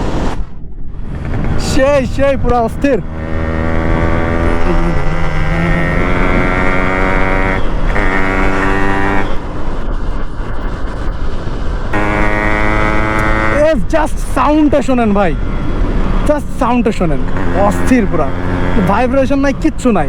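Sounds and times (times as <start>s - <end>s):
two-stroke motorcycle engine running: 1.2s - 20.0s.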